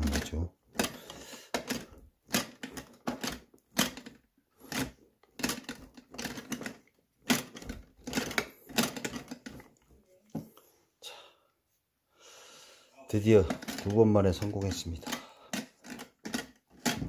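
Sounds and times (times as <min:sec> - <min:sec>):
wooden spoon stirring sticky beans: 0:00.0 - 0:10.0, 0:13.1 - 0:17.0.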